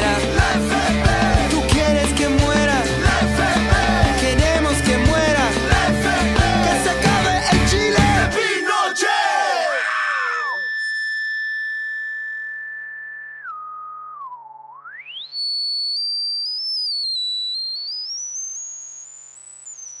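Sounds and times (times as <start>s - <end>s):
synthesizer whistle-like tone: 0.0s - 20.0s.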